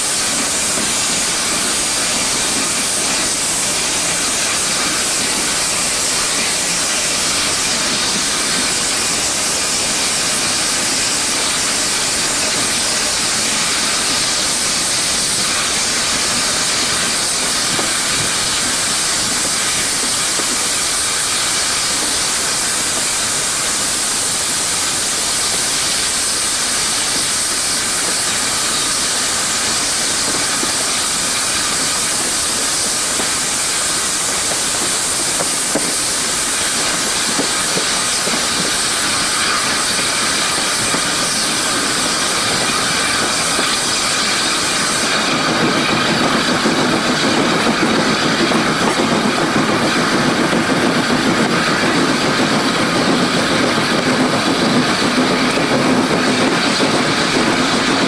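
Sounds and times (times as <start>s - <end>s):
steam train rushing: 0.0s - 58.0s.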